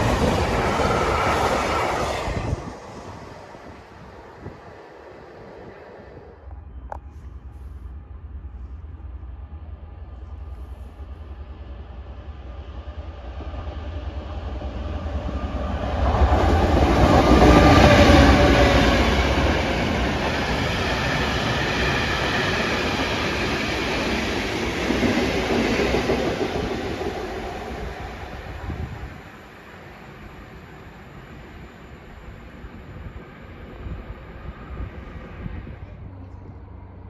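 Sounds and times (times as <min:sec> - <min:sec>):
diesel locomotive engine passing: 0:00.0 - 0:37.0.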